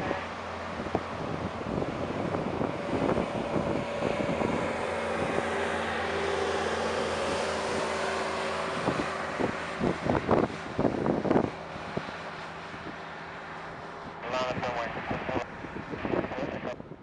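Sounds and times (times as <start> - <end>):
engine tones: 0.0 - 17.0
jet engines rushing: 0.0 - 17.0
wind buffeting microphone: 0.0 - 17.0.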